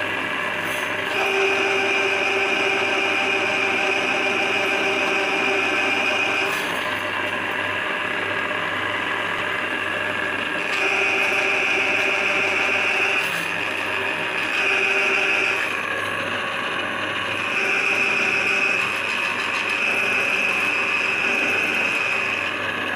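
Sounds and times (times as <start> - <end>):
drain-cleaning machine running: 0.0 - 22.9.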